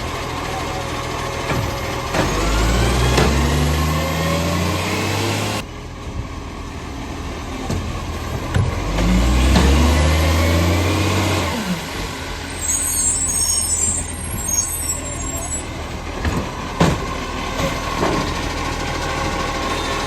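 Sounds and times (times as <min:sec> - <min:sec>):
diesel truck engine revving: 0:00.0 - 0:05.8, 0:06.6 - 0:20.0.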